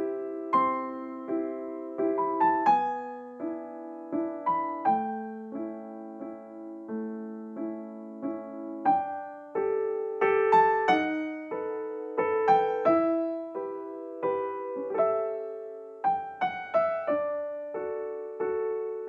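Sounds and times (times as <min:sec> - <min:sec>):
soft piano music: 0:00.0 - 0:19.0.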